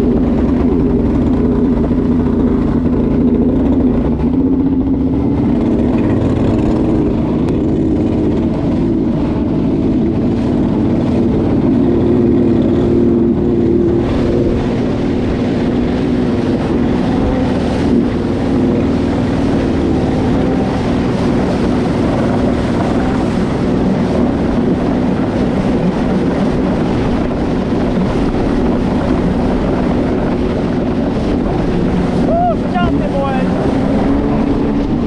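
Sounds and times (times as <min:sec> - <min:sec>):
boat engine running: 0:00.0 - 0:35.0
wind buffeting microphone: 0:00.0 - 0:35.0.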